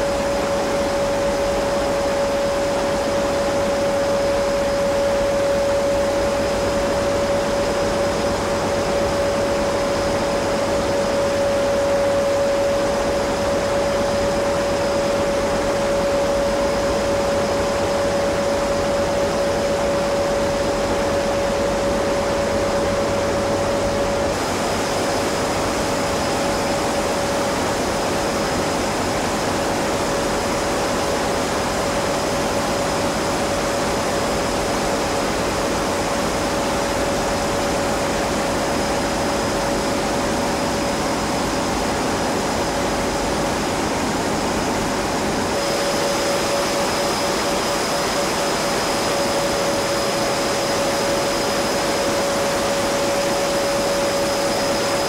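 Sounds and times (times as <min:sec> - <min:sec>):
engine-room machinery hum and hiss: 0:00.0 - 0:55.0
machinery whine: 0:00.0 - 0:55.0.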